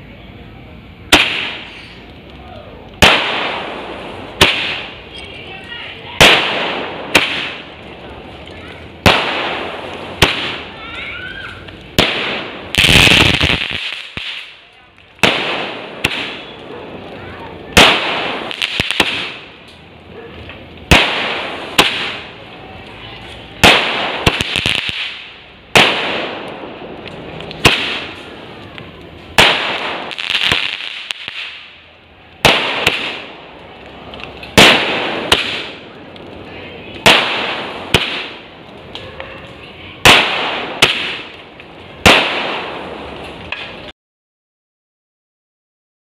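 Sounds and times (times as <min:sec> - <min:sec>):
fireworks crackling and fizzing: 0:00.0 - 0:43.9
fireworks banging: 0:00.9 - 0:43.9.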